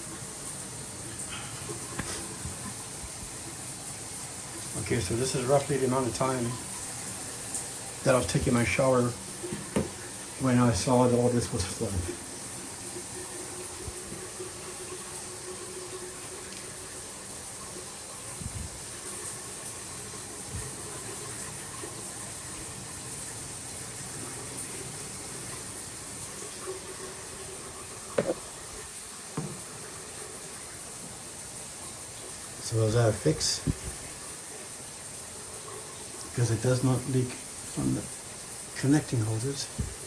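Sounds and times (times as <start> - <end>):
shower water running: 0.0 - 40.0.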